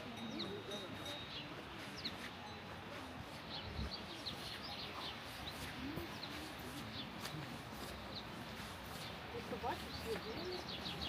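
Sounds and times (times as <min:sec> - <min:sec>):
faint distant voices: 0:00.0 - 0:11.0
small birds chirping: 0:00.1 - 0:02.6, 0:03.3 - 0:11.0.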